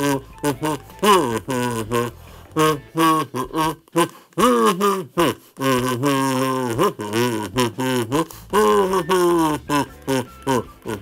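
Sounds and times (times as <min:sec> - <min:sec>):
kazoo playing a tune: 0:00.0 - 0:11.0.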